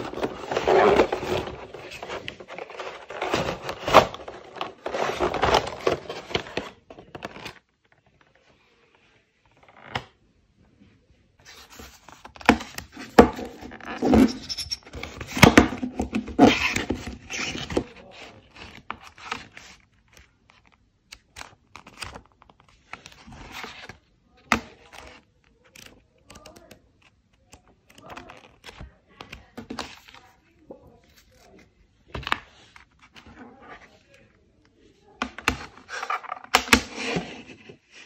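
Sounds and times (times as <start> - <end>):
photobook pages turning: 0.0 - 10.1, 11.4 - 14.3, 14.9 - 34.3.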